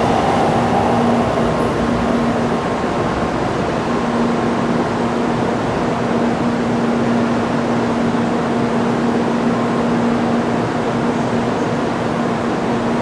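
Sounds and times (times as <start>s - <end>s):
train rolling slowly: 0.0s - 13.0s.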